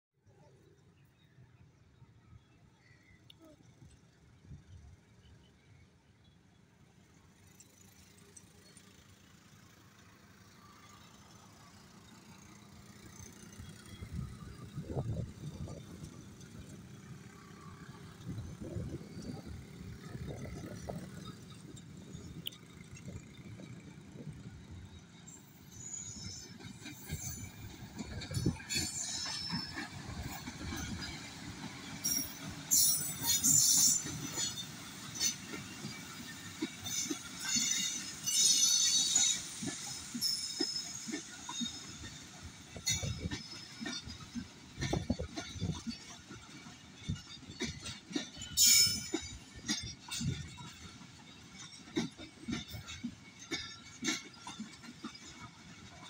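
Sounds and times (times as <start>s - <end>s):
diesel locomotive rumbling: 3.2s - 56.0s
train wheels squealing: 4.7s - 56.0s
wheels clanking over rail joints: 10.8s - 56.0s.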